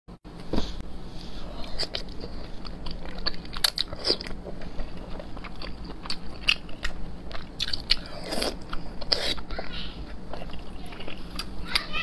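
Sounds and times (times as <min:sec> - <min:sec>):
person chewing food: 0:01.1 - 0:11.9.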